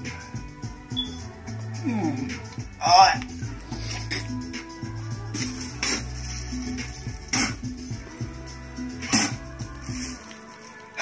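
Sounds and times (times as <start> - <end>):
slow beat background music: 0.0 - 11.0.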